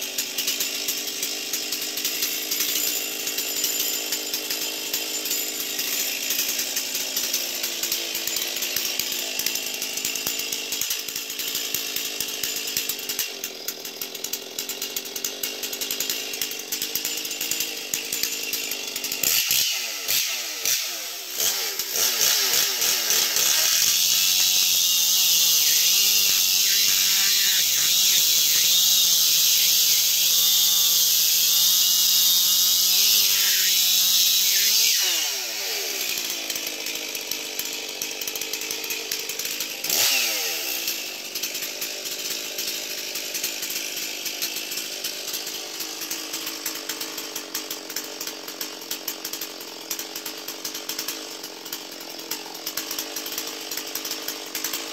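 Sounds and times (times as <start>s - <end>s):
chainsaw revving and idling: 0.0s - 54.9s.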